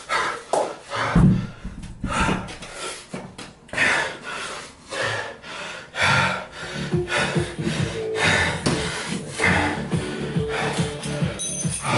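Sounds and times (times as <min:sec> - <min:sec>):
man breathing hard: 0:00.0 - 0:11.9.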